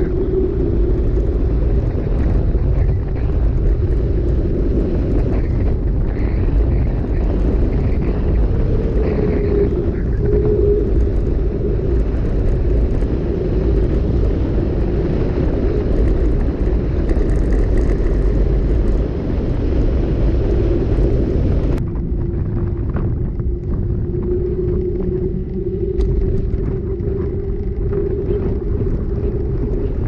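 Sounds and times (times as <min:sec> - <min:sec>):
bike tyre noise on asphalt: 0:00.0 - 0:30.0
wind rushing over microphone: 0:00.0 - 0:30.0.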